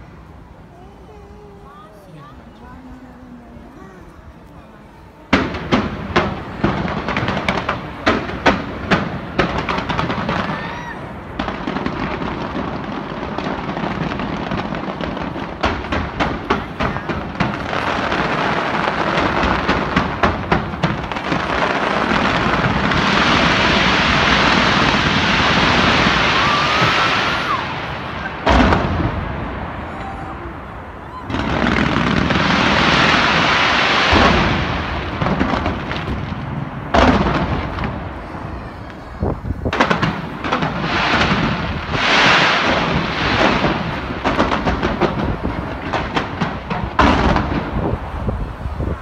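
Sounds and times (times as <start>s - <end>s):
fireworks crackle: 0.0s - 49.0s
fireworks bangs: 5.2s - 49.0s.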